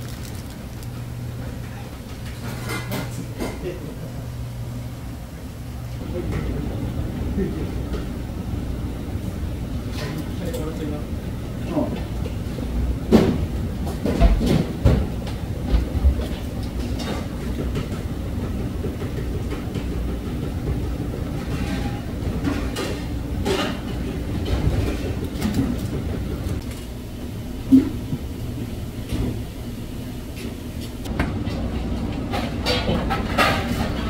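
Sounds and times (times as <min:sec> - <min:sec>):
kitchen background rumble: 0:00.0 - 0:34.0.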